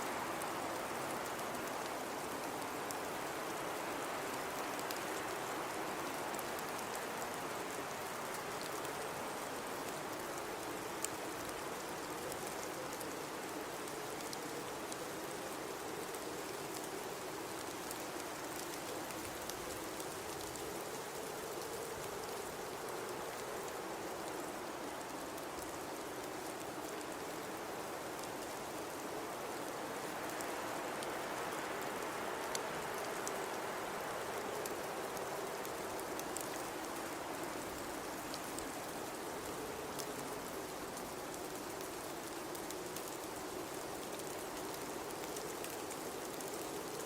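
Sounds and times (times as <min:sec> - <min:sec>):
howling blizzard wind: 0:00.0 - 0:47.0.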